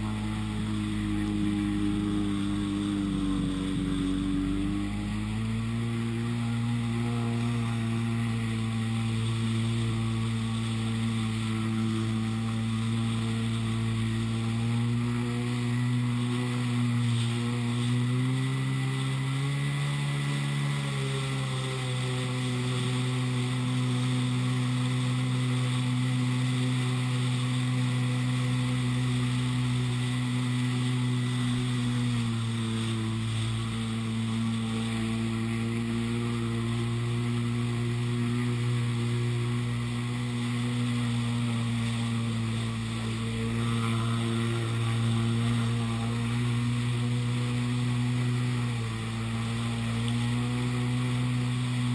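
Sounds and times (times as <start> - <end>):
jetski engine running hard: 0.0 - 51.9.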